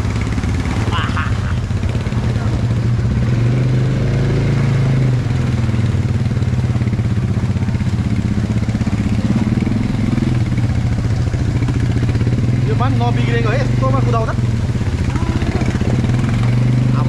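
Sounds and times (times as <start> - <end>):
quad bike engine running: 0.0 - 17.0
vehicle wading through water: 0.0 - 17.0.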